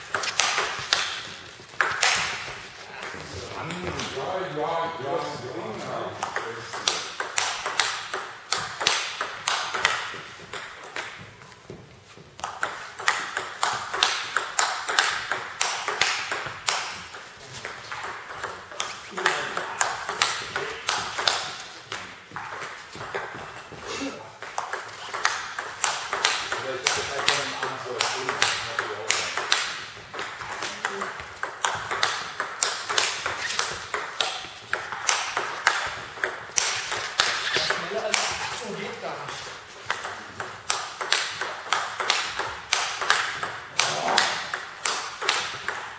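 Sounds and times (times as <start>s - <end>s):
ball clicking off rackets: 0.0s - 4.2s, 6.2s - 38.6s, 39.2s - 45.9s
ball bouncing on table: 0.1s - 4.2s, 6.2s - 11.8s, 12.4s - 23.8s, 24.4s - 38.6s, 39.2s - 45.9s.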